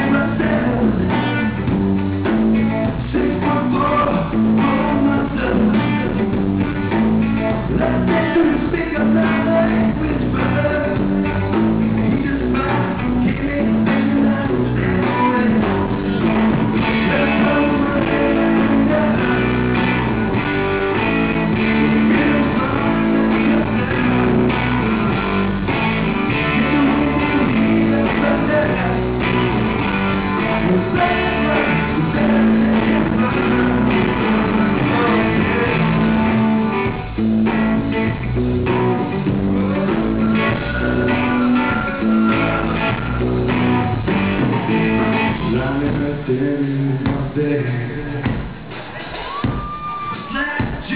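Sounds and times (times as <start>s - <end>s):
male lead vocal: 0.0s - 1.7s, 2.8s - 6.4s, 7.5s - 37.0s, 39.2s - 48.6s, 49.5s - 50.9s
live pop-rock band playing: 0.0s - 50.9s.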